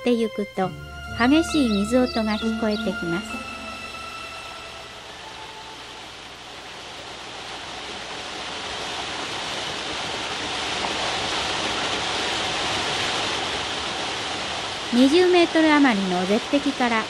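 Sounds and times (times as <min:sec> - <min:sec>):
waterfall rushing: 0:00.7 - 0:17.0.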